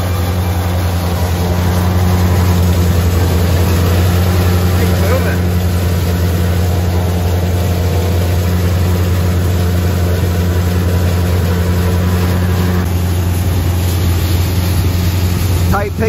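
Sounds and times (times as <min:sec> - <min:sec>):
tractor engine and machinery humming: 0:00.0 - 0:16.0.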